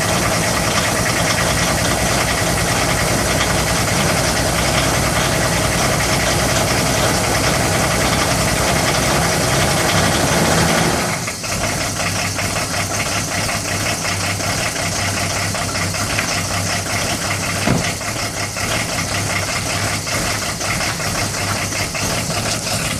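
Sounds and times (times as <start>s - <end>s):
diesel engine idling: 0.0s - 22.9s
fast even engine ticking: 0.0s - 22.9s.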